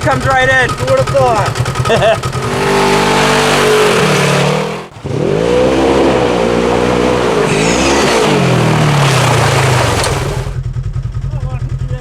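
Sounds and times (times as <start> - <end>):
engine revving: 0.0 - 10.6.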